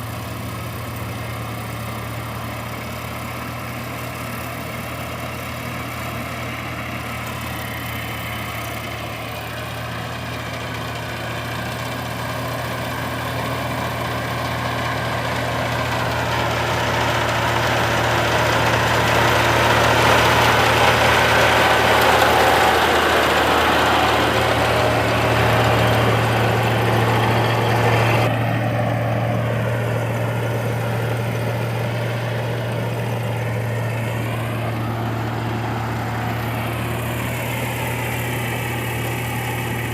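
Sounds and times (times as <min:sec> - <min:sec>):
farm machine engine humming: 0:00.0 - 0:39.9.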